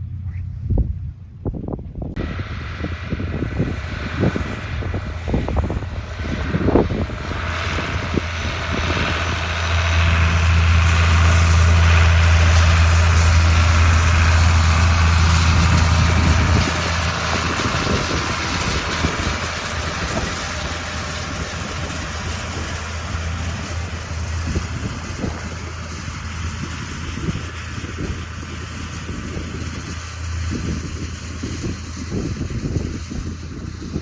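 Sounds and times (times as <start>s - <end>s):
farm machinery engine humming: 0.0s - 34.0s.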